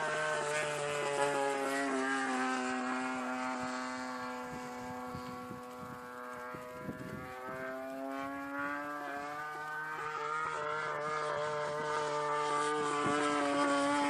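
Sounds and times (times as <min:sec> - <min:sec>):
biplane engine droning: 0:00.0 - 0:14.0.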